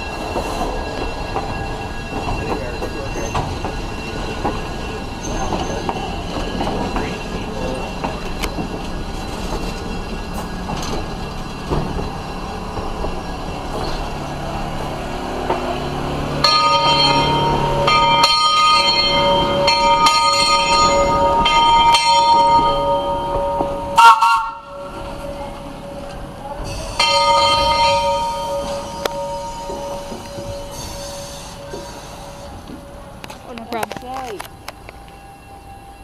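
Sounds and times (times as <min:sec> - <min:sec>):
locomotive bell ringing: 0:00.0 - 0:36.0
train rumbling: 0:00.0 - 0:36.0.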